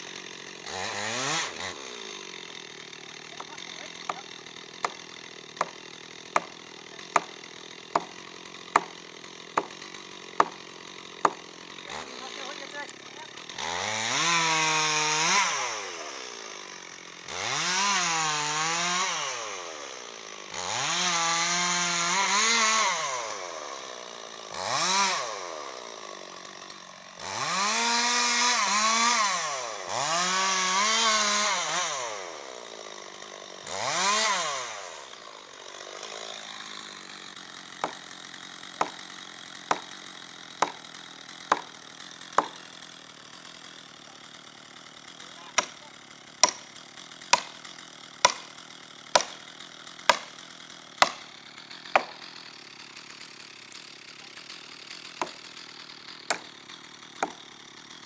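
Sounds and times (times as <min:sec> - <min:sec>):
hammer striking felling wedge: 0:00.0 - 0:43.5, 0:45.5 - 0:45.8, 0:46.4 - 0:58.0
chainsaw cutting and revving: 0:00.0 - 0:58.0.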